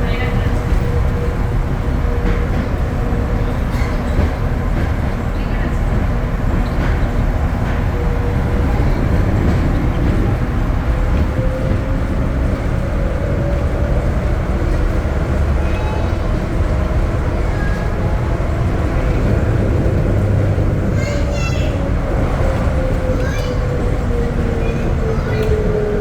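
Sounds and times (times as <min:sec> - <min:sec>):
train car rumbling: 0:00.0 - 0:26.0.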